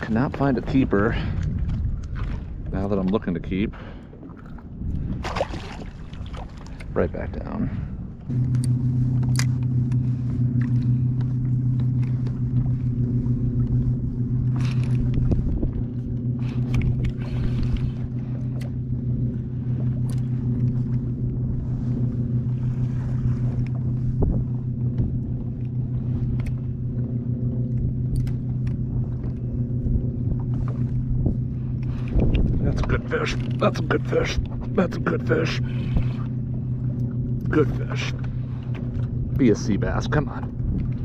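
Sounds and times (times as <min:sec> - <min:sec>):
electric trolling motor humming: 0:05.8 - 0:41.0.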